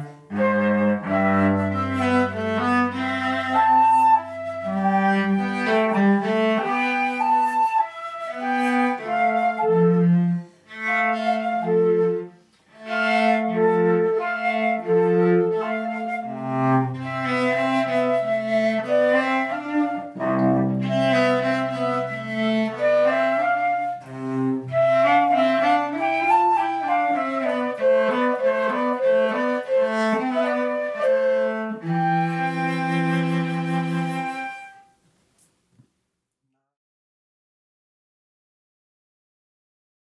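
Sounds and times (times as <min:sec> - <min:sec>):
cello bowed notes: 0:00.0 - 0:34.9
flute melody: 0:00.0 - 0:35.0.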